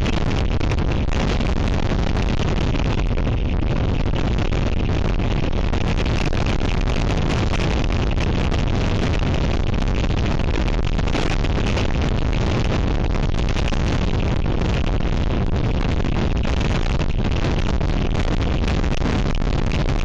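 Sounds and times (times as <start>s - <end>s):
strong wind on microphone: 0.0s - 20.0s.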